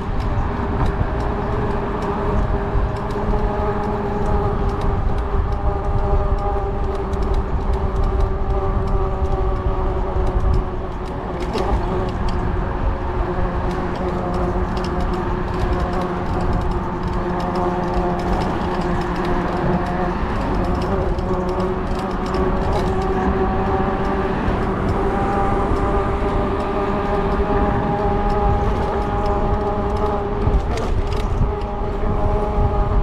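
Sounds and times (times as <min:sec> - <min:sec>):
electric motor whining: 0:00.0 - 0:33.0
wind rumbling on microphone: 0:00.0 - 0:33.0.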